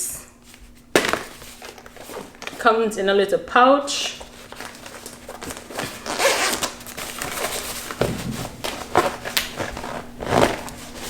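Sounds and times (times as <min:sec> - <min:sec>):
packaging rustling and crinkling: 0:00.4 - 0:02.8, 0:04.0 - 0:11.0.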